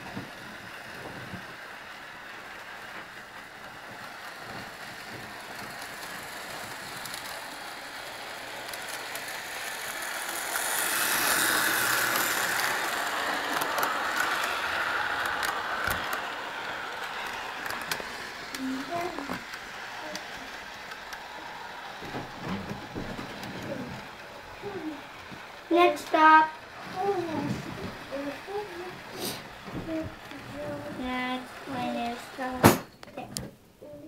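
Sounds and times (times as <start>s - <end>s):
toy train motor whirring: 0.0s - 33.3s.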